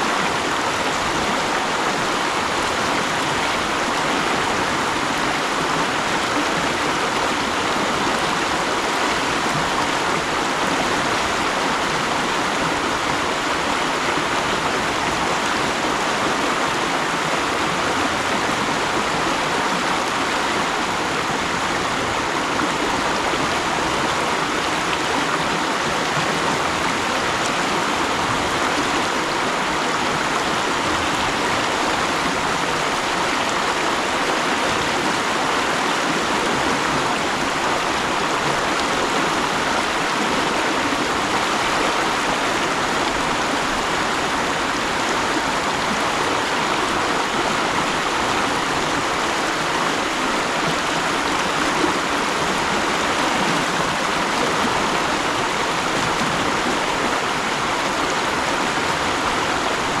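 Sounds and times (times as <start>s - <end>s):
stream rushing over rocks: 0.0s - 60.0s.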